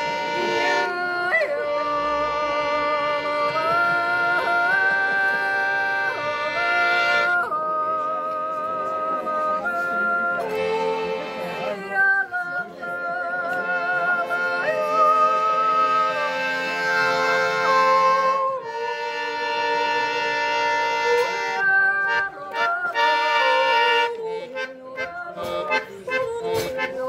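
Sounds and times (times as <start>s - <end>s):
button accordion: 0.0s - 27.0s.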